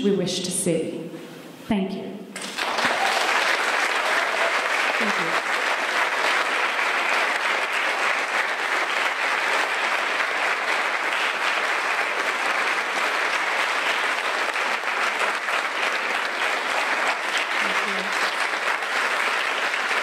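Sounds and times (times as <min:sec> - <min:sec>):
audience applauding: 0:02.4 - 0:20.0.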